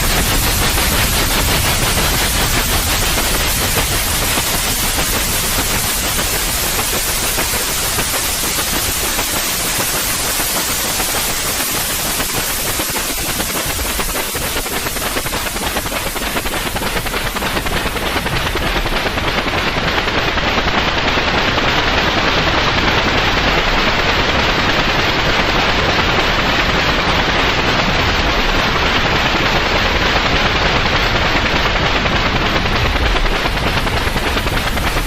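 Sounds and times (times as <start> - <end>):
white noise hiss: 0.0 - 35.0.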